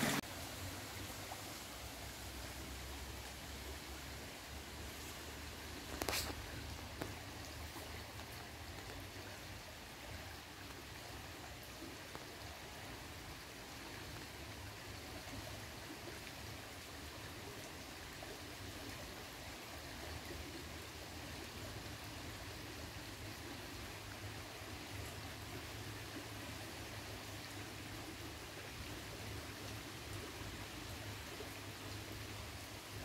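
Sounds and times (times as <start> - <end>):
river water flowing: 0.0 - 33.0.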